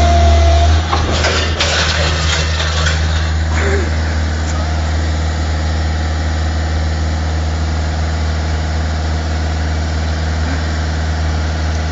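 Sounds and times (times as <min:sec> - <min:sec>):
large vehicle engine idling: 0:00.0 - 0:11.9.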